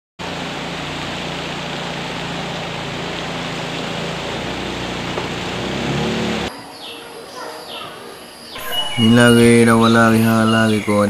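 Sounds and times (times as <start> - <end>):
boat engine hum: 0.2 - 11.0
river rapids rushing: 0.2 - 11.0.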